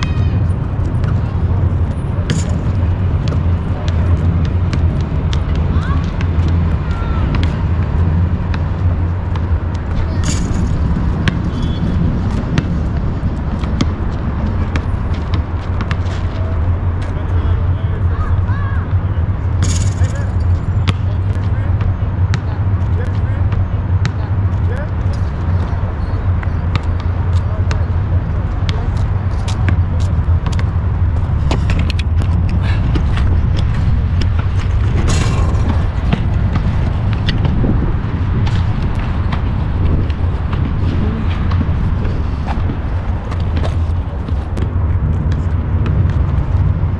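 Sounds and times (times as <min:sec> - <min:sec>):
basketball bouncing on asphalt: 0:00.0 - 0:17.2, 0:19.6 - 0:46.9
steady low rumble: 0:00.0 - 0:46.9.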